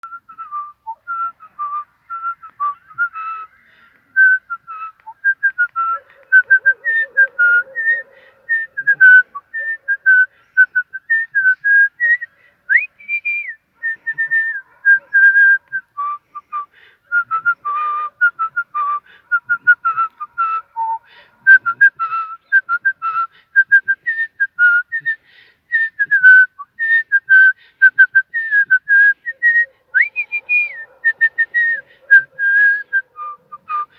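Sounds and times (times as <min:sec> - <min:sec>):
man whistling a lively tune: 0:00.0 - 0:03.6, 0:04.2 - 0:33.9.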